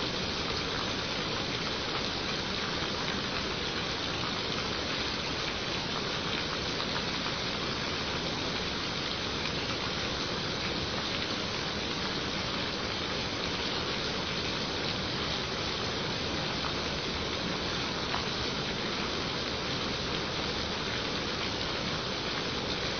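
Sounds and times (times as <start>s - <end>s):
steady rain falling: 0.0s - 22.9s.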